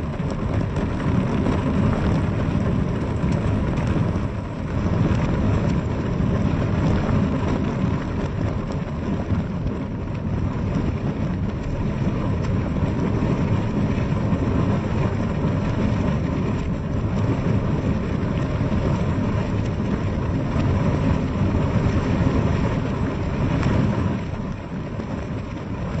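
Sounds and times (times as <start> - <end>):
rain falling on a window: 0.0 - 26.0.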